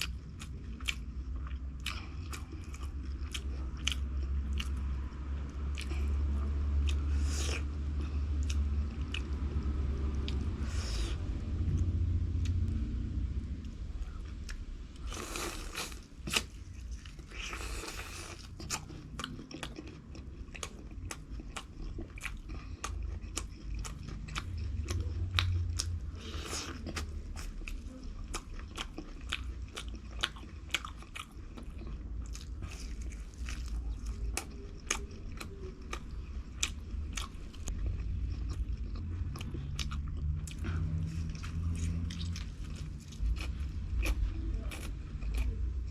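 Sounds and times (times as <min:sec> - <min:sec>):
chewing and crunching fried food: 0:00.0 - 0:45.9.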